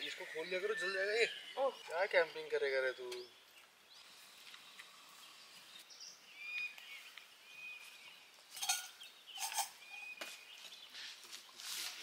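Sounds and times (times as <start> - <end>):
birds whistling: 0.0 - 11.8.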